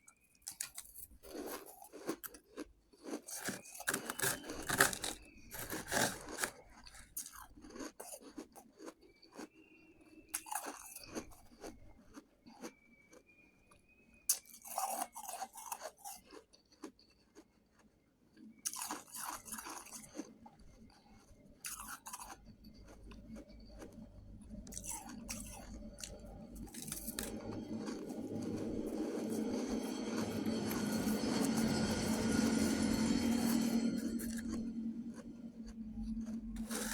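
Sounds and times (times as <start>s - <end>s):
chewing crunchy ice: 0.0s - 36.9s.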